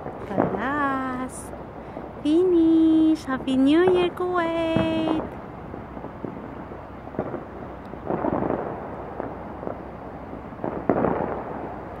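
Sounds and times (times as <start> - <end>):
firework cracks: 0.0 - 12.0
fireworks bangs: 0.0 - 12.0.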